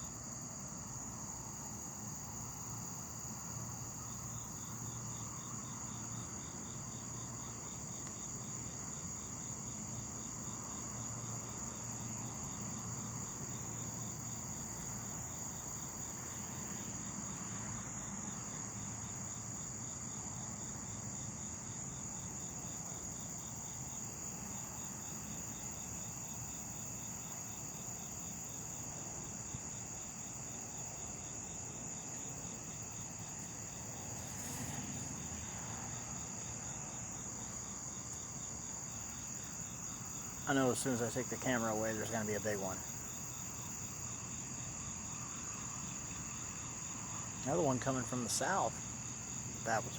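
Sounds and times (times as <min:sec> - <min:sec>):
crickets trilling: 0:00.0 - 0:49.9
regular insect chirps: 0:00.0 - 0:49.9.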